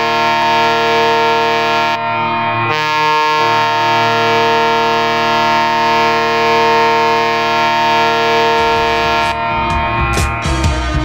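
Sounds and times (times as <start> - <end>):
goal horn blast: 0.0 - 11.0
low music notes: 0.0 - 11.0.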